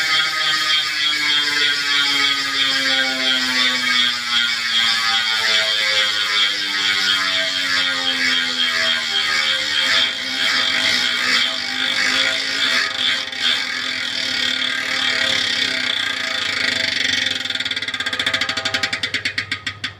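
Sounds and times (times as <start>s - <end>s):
bicycle freehub ratcheting: 0.0s - 19.9s.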